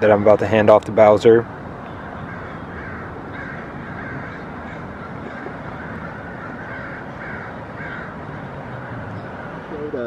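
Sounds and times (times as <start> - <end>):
bird calling: 0.0 - 10.0
low background noise: 0.0 - 10.0.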